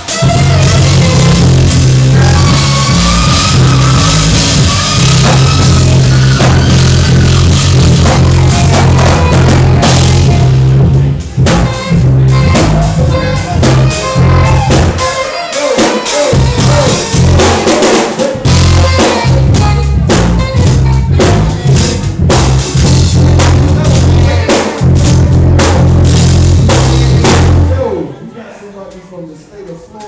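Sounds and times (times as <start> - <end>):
drum kit: 0.0 - 27.9
live rock band playing: 0.0 - 28.0
heavy bass line: 0.0 - 28.1.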